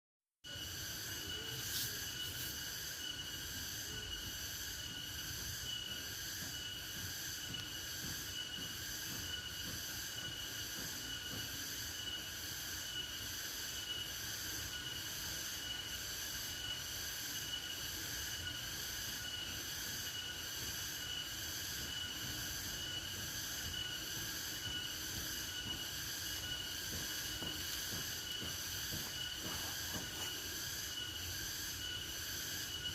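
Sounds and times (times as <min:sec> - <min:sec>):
pulsing insect chorus: 0:00.4 - 0:32.9
steady high whine: 0:00.5 - 0:32.9.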